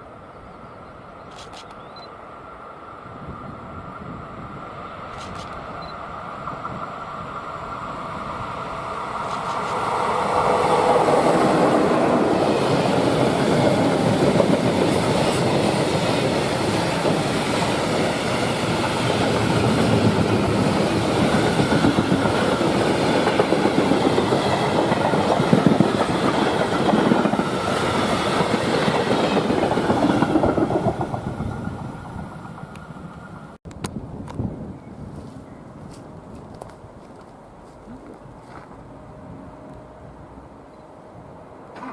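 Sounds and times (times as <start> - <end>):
freight train wheels on rails: 1.2 - 40.0, 41.6 - 41.9.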